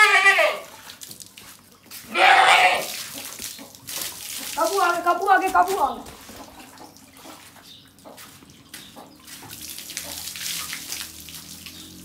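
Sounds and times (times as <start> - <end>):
water dripping onto brick floor: 0.6 - 2.2, 2.8 - 12.0
water pouring and splashing: 0.6 - 12.0.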